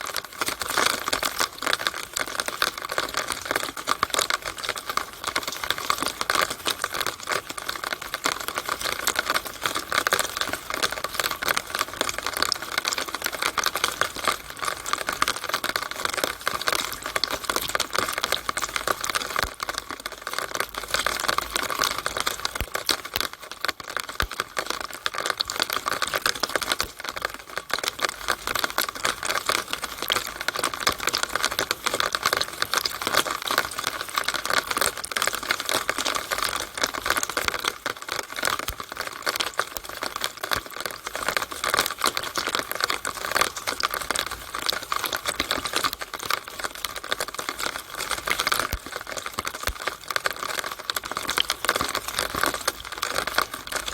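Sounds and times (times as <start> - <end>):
rainwater dripping in downspout: 0.0 - 53.9.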